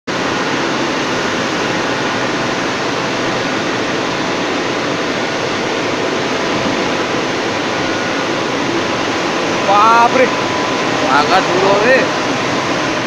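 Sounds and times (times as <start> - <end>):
blast furnace rushing noise: 0.1 - 13.0.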